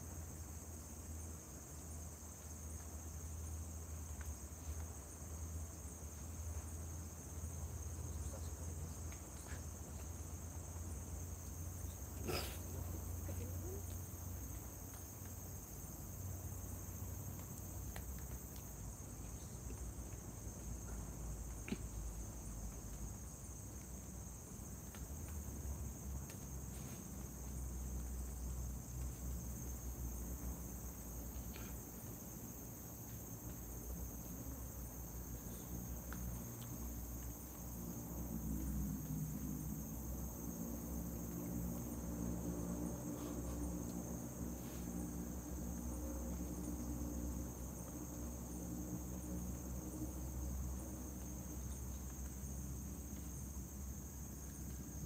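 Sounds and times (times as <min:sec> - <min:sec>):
crickets and insects chirring: 0:00.0 - 0:55.0.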